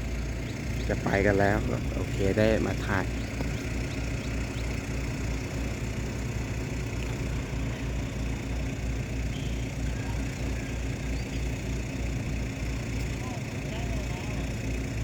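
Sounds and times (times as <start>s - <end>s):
diesel engine throbbing rumble: 0.0s - 15.0s.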